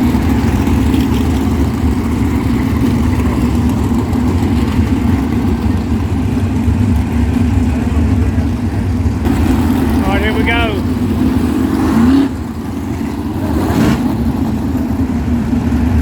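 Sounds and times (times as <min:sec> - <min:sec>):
race car engines running: 0:00.0 - 0:16.0.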